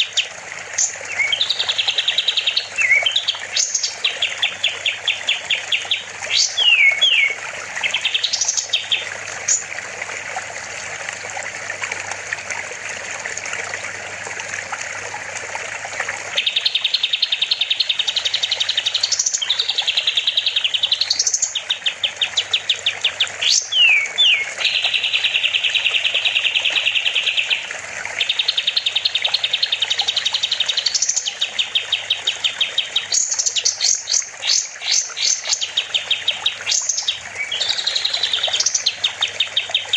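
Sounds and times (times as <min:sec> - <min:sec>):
bird singing trilled phrases: 0:00.0 - 0:09.7, 0:16.4 - 0:39.9
rushing water: 0:00.0 - 0:39.9.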